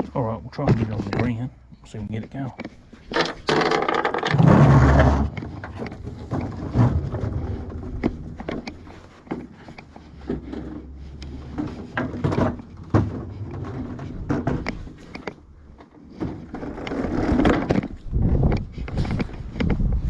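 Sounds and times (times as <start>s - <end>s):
lawn mower clunking and rattling: 2.6s - 19.7s.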